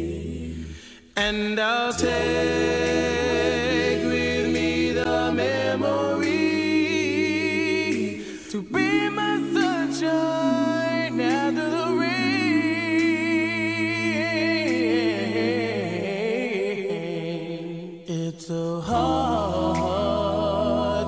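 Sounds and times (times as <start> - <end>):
group of voices harmonizing: 0.0 - 18.0
lead voice singing: 0.0 - 21.0.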